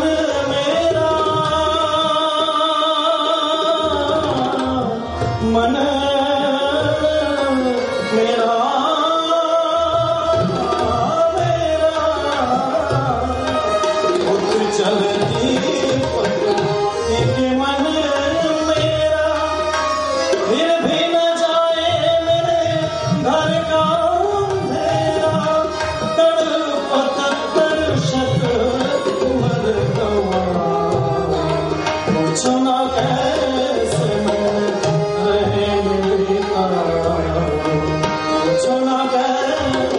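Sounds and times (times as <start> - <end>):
harmonium: 0.0 - 39.9
man singing: 0.0 - 39.9
tabla drums: 0.0 - 39.9.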